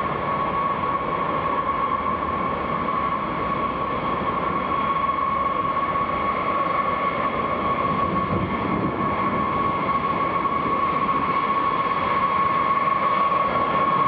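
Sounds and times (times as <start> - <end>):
high-pitched whine: 0.0 - 14.0
steady droning noise: 0.0 - 14.0.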